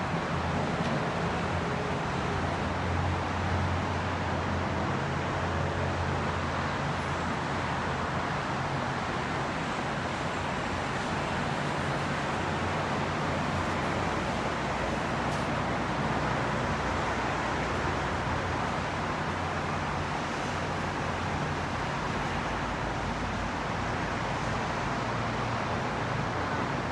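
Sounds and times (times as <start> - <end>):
freeway traffic noise: 0.0 - 26.9.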